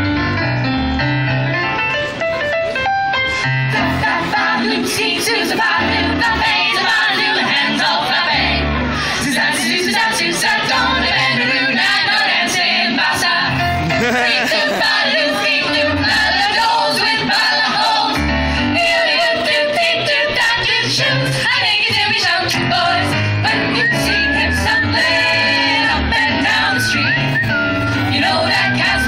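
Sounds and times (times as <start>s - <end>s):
vocal group singing swing tune: 3.8s - 29.0s.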